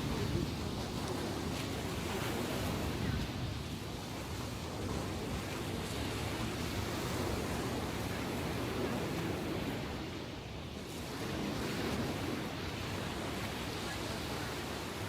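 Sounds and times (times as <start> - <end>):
ocean waves breaking: 0.0 - 15.0
wind on microphone: 0.0 - 15.0.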